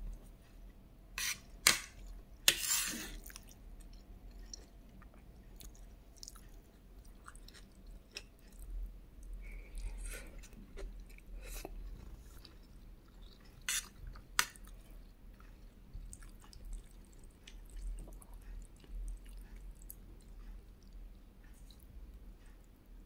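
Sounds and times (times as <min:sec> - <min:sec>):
close chewing with wet mouth sounds: 0:03.2 - 0:22.8.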